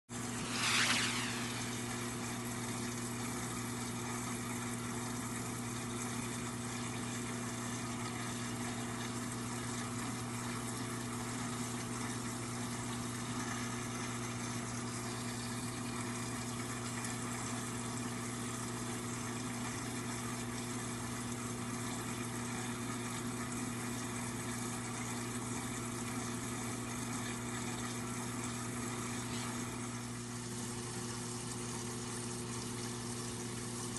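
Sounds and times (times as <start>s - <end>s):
aquarium pumps humming: 0.1s - 33.9s
circulating water hiss: 0.1s - 33.9s.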